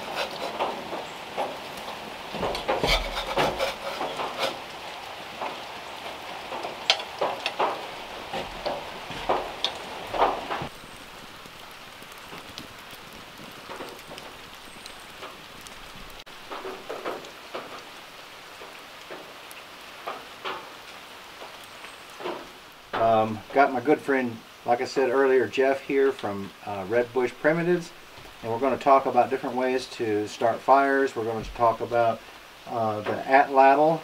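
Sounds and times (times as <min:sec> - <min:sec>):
fire crackling: 0:00.0 - 0:34.0
pancakes sizzling on a griddle: 0:00.0 - 0:34.0.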